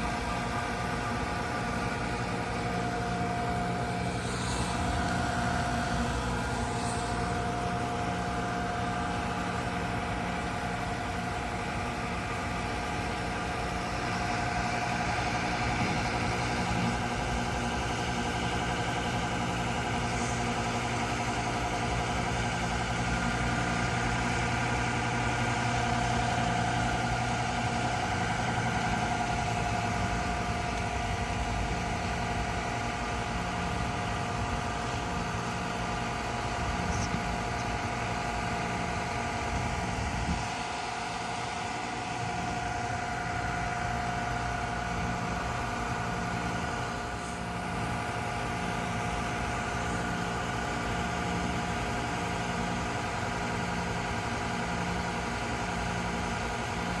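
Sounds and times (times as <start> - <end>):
heat pump compressors humming: 0.0 - 57.0.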